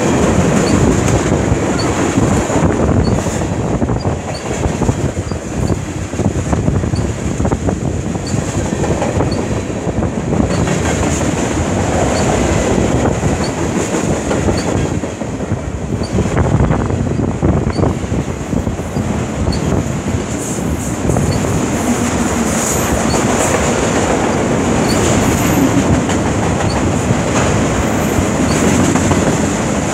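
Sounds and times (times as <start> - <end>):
train wheels rumbling on rails: 0.0 - 29.9
wheels clacking over rail joints: 0.0 - 29.9.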